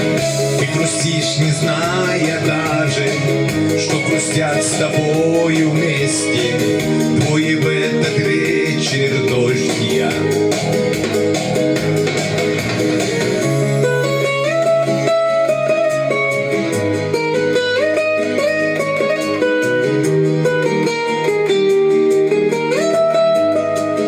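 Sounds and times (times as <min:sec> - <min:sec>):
guitar melody with sliding notes: 0:00.0 - 0:24.0
steady bass line: 0:00.0 - 0:24.0.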